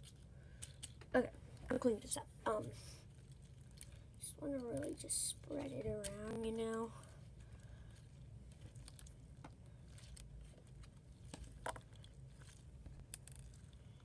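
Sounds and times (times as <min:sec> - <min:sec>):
hands kneading slime: 0:00.0 - 0:14.0
low room hum: 0:00.0 - 0:14.0.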